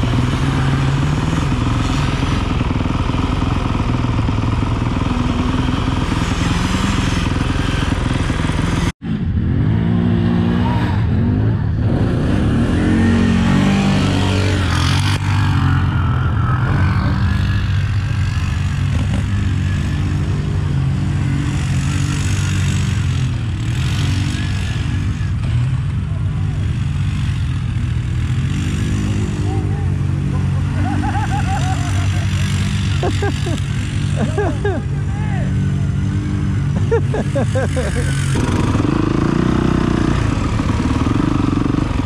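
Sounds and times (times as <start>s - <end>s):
engines revving: 0.0s - 42.0s.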